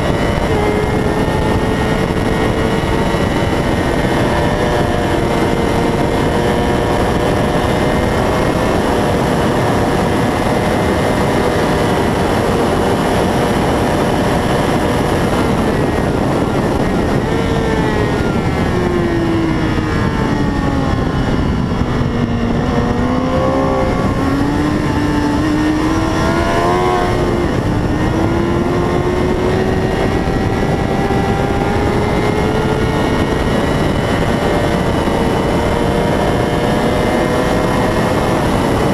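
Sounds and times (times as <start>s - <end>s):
racing motorcycle engine: 0.0s - 38.9s
wind rush: 0.0s - 38.9s.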